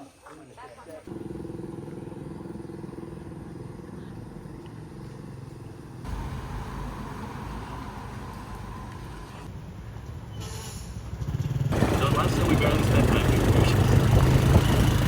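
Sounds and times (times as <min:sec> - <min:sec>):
vehicle engine rumbling: 0:01.1 - 0:15.0.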